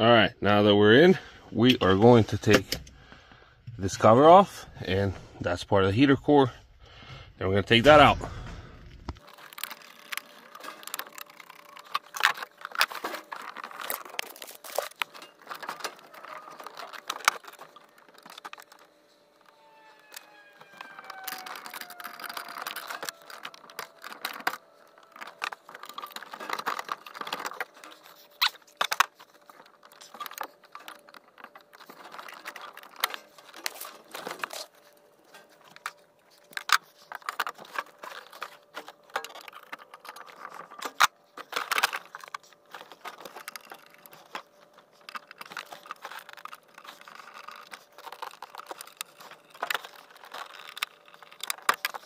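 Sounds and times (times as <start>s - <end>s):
rustling: 7.7s - 52.0s.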